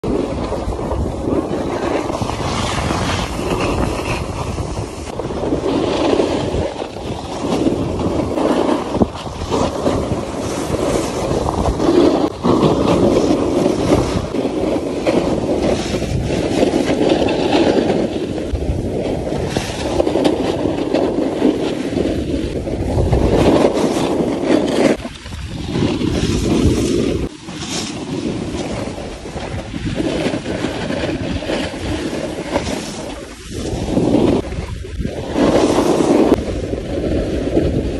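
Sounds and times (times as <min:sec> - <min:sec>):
wind rushing on microphone: 0:00.0 - 0:37.9
snowboards scraping on snow: 0:00.1 - 0:37.9.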